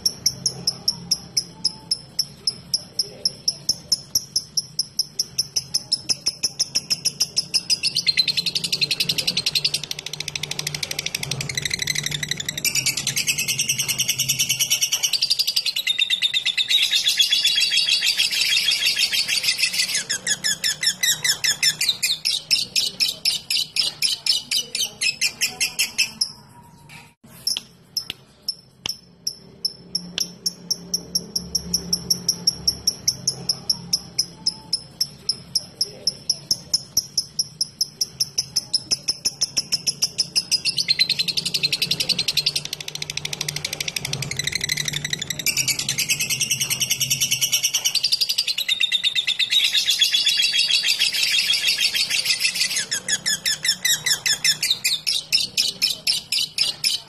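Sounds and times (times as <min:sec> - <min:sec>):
bird chattering trill: 0:00.0 - 0:26.6, 0:27.4 - 0:57.0
rapid bird chirps: 0:00.0 - 0:57.0.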